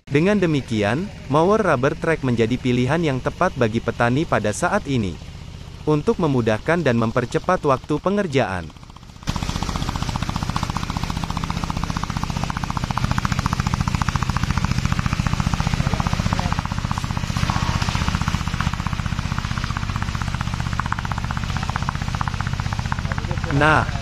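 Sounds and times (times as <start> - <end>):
brush mower engine running: 0.0 - 24.0.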